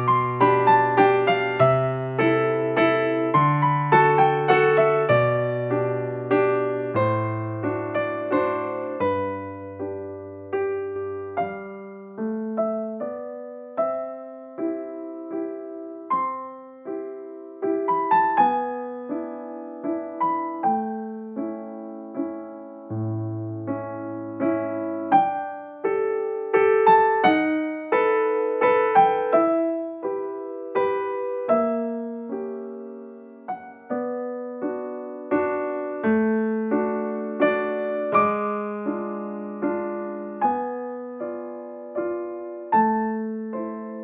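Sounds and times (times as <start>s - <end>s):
gentle piano music: 0.0s - 44.0s.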